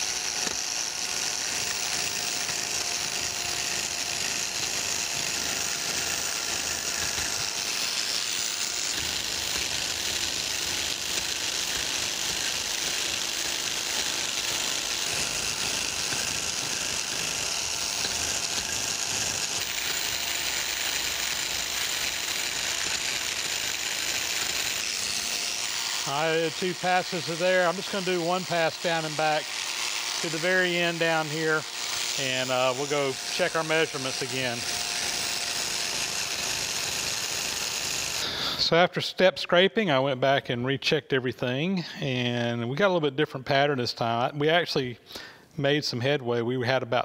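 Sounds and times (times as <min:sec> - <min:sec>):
power scraper blade chattering: 0:00.0 - 0:38.6.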